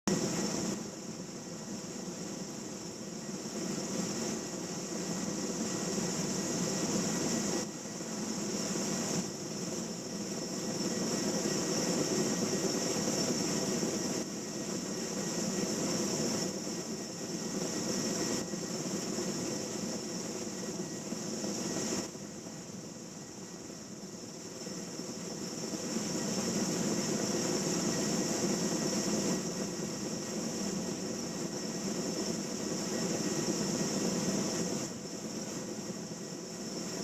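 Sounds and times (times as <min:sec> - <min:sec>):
helicopter turbine and rotor: 0:00.1 - 0:37.0.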